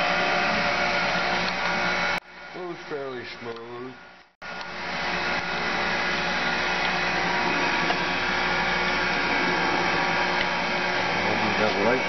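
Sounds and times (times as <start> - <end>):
grinder motor humming: 0.0 - 12.0.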